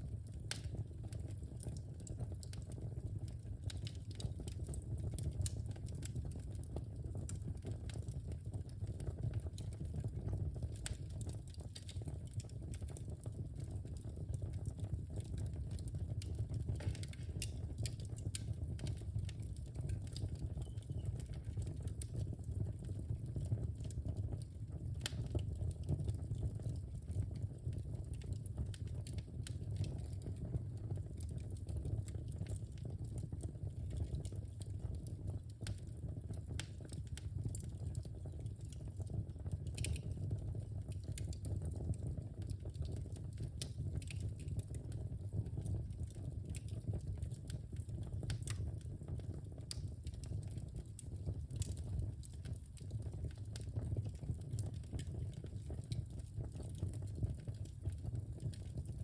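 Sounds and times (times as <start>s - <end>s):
fire flames rumbling: 0.0s - 59.0s
logs crackling and popping: 0.0s - 59.0s.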